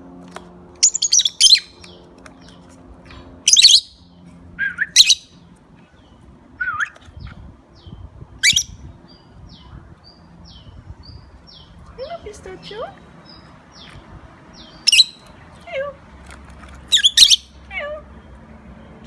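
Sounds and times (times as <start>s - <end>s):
birds giving shrill calls: 0.8s - 5.4s, 6.0s - 18.4s.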